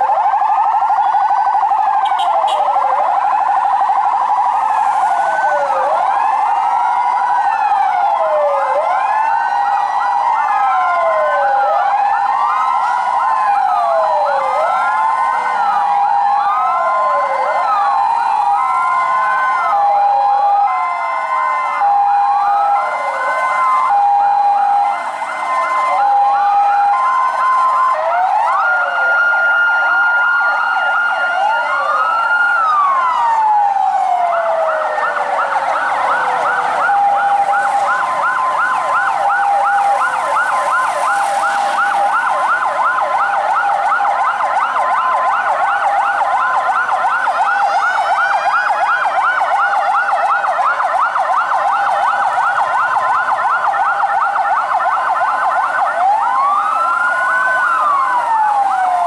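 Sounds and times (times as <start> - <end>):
fast yelp siren warble: 0.0 - 59.0
held siren tone: 0.0 - 59.0
two-tone hi-lo siren: 0.0 - 59.0
wailing siren: 0.0 - 59.0.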